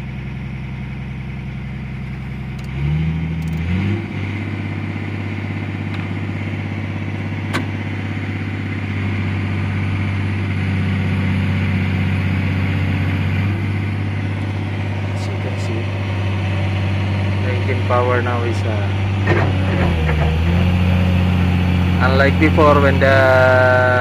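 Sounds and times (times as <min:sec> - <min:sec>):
excavator diesel engine revving: 0:01.0 - 0:24.0.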